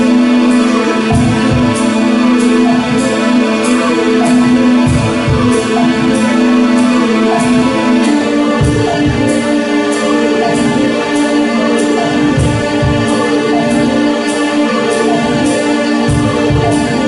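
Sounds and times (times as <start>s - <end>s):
drums cymbal beat: 0.0s - 17.0s
held keyboard chord: 0.0s - 17.0s.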